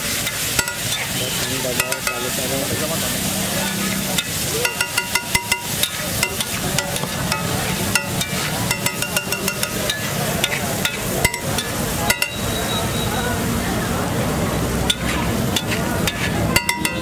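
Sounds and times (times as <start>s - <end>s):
metal spatula clanging on griddle: 0.0s - 12.8s, 14.8s - 17.0s
egg frying sizzle: 0.0s - 17.0s.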